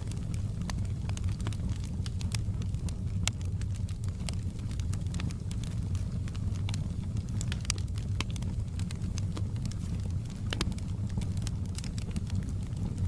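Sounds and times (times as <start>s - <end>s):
low rumble of flame: 0.0s - 13.0s
wood fire crackling and popping: 0.0s - 13.0s.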